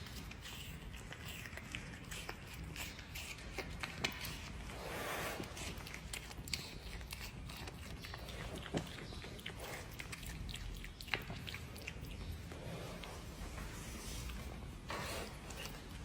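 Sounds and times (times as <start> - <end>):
animal chewing noisily: 0.0 - 16.0.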